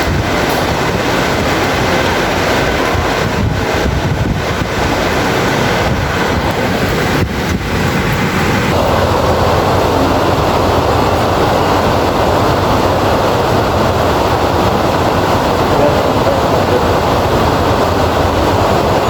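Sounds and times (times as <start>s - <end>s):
deep rumble: 0.0s - 19.0s
heavy rain falling: 0.0s - 19.0s.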